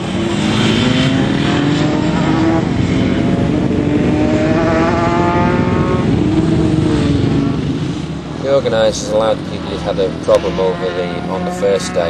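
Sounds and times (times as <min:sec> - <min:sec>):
racing motorcycle engine revving: 0:00.0 - 0:12.0.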